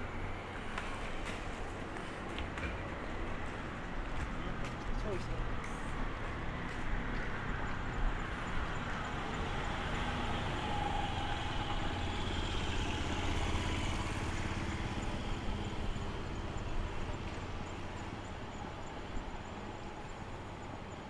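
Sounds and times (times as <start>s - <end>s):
city hum: 0.0s - 21.0s
vehicle engine rumbling: 0.0s - 21.0s.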